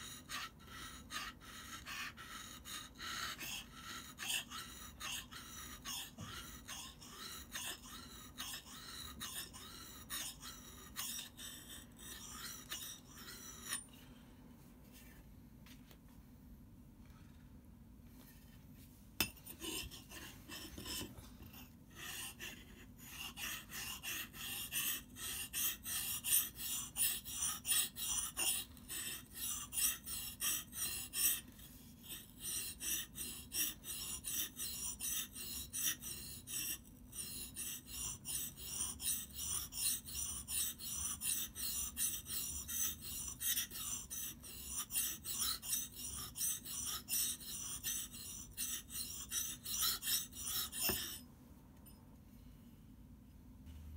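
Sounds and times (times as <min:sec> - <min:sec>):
blade grinding on whetstone: 0:00.0 - 0:13.9, 0:19.2 - 0:51.2.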